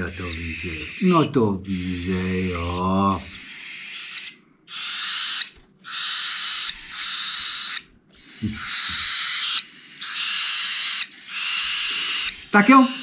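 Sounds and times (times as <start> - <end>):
baby birds raspy begging calls: 0.0 - 13.0.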